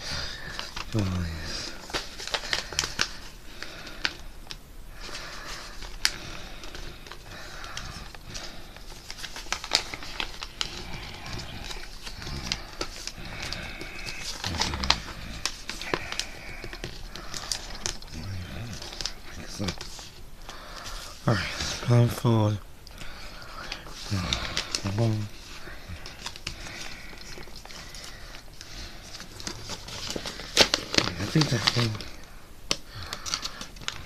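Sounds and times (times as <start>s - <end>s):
paper crinkling and rustling: 0.0s - 4.2s, 5.0s - 22.4s, 23.0s - 34.0s.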